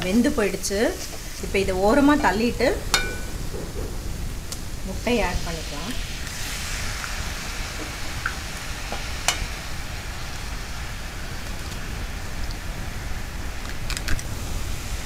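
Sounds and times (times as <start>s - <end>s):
egg sizzling in hot oil: 0.0s - 15.0s.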